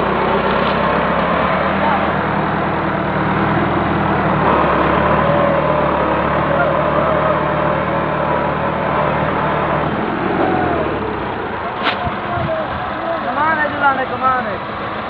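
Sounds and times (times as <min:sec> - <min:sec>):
tractor diesel engine straining: 0:00.0 - 0:15.0.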